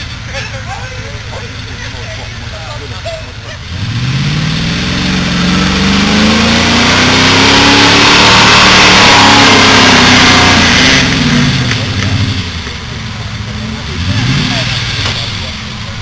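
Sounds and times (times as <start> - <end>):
buggy engine revving hard: 0.0 - 16.0.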